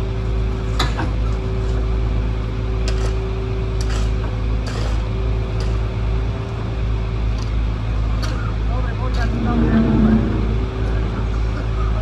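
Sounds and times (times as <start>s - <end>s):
heavy vehicle engine humming: 0.0s - 12.0s.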